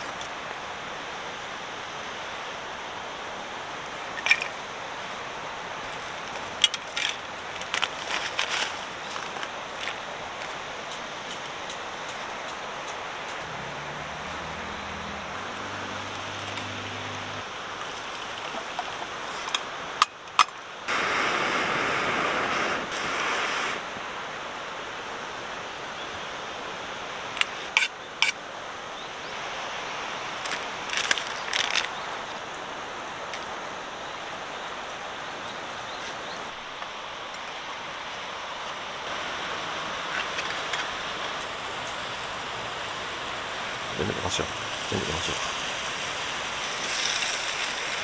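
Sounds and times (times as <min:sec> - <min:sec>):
campfire cooking hiss: 0:00.0 - 0:48.0.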